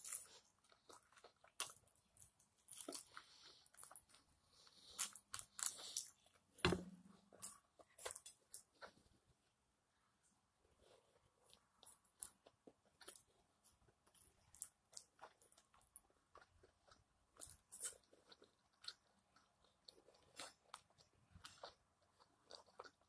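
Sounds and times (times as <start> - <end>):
person chewing: 0.0 - 6.5, 7.2 - 9.1, 10.9 - 23.0.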